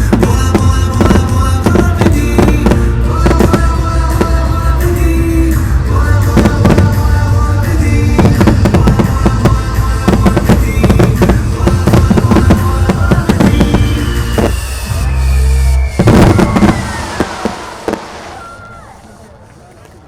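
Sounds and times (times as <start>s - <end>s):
loud music: 0.0s - 17.4s
fireworks bursting: 0.0s - 19.5s.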